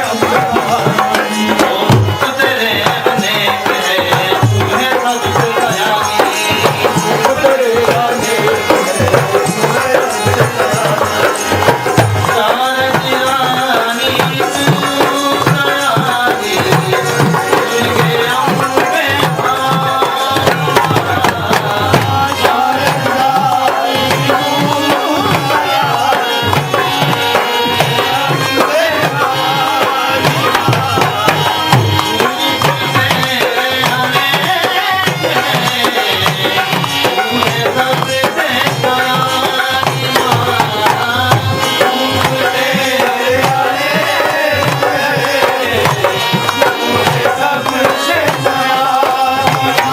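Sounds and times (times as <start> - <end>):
tabla playing rhythm: 0.0 - 49.9.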